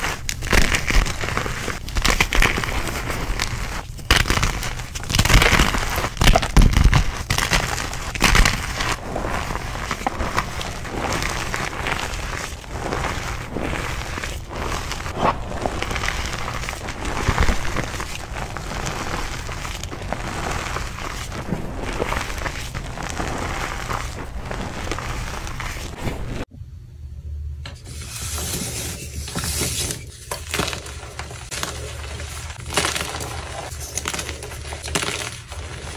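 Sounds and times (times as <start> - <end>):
chalk crunching and crumbling: 0.0 - 26.5, 27.9 - 35.9.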